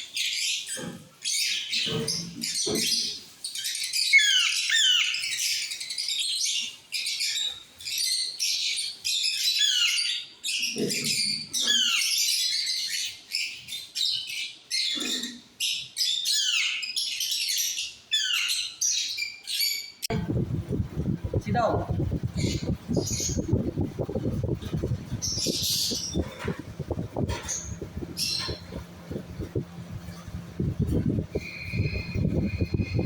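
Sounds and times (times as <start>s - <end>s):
parakeets screeching: 0.1s - 19.9s, 22.2s - 33.0s.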